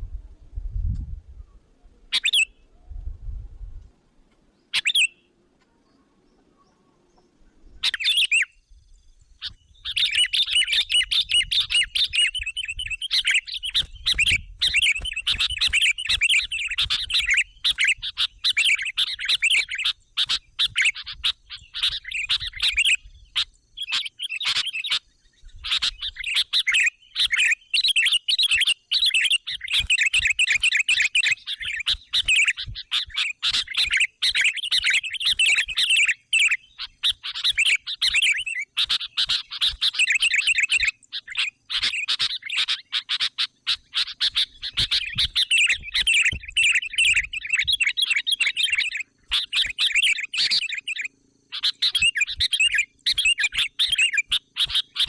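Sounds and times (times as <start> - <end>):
bulbul chirping: 7.8 - 55.0.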